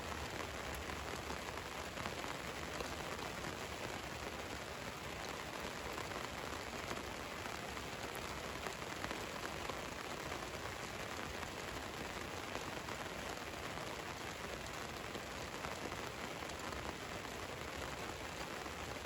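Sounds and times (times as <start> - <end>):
rain drumming on metal roof: 0.0 - 19.0.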